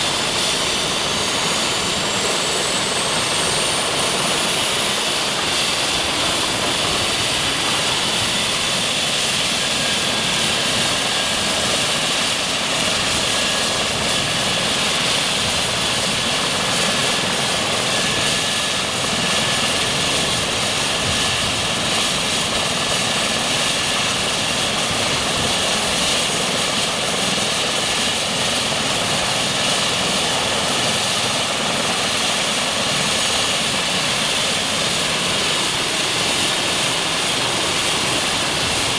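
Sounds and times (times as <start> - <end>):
helicopter engines and rotor running: 0.0 - 38.9
high turbine whine: 0.0 - 38.9.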